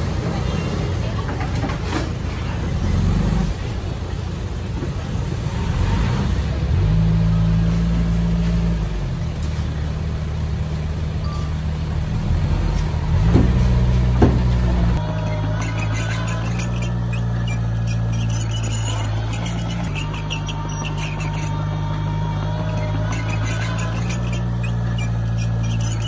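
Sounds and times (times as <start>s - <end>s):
bulldozer diesel engine under load: 0.0s - 26.0s.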